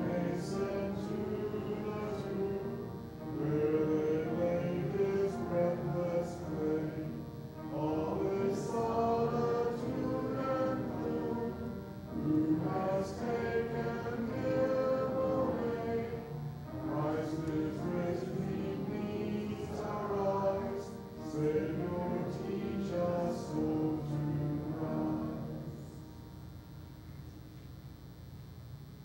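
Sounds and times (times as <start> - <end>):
voices singing a hymn: 0.0 - 27.2.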